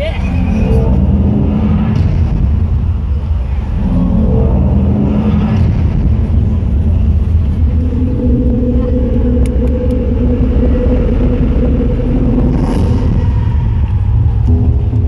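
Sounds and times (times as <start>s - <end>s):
electronic bass drone: 0.0s - 15.0s.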